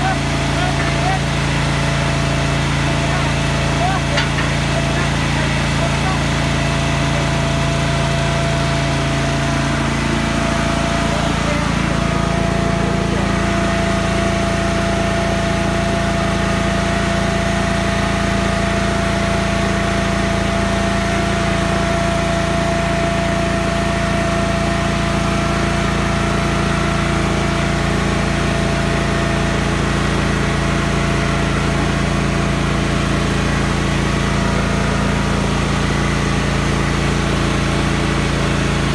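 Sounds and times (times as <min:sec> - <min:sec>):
utility machine engine running: 0:00.0 - 0:38.9.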